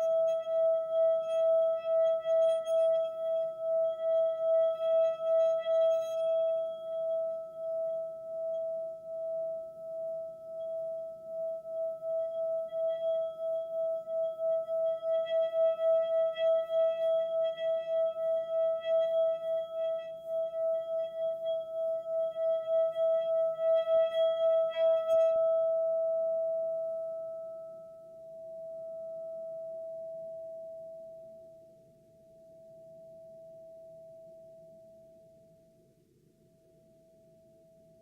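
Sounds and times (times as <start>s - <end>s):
pulsing ringing tone: 0.0s - 31.5s.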